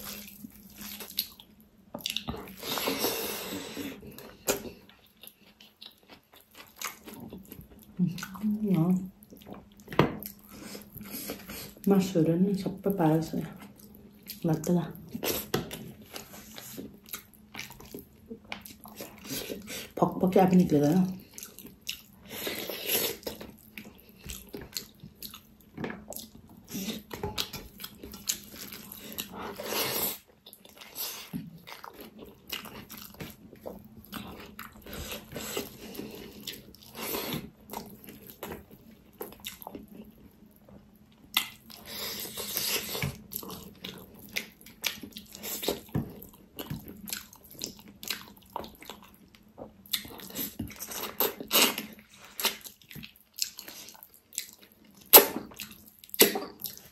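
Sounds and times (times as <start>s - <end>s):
person chewing wetly: 0.0s - 8.5s, 9.1s - 11.9s, 13.5s - 20.0s, 21.1s - 56.9s.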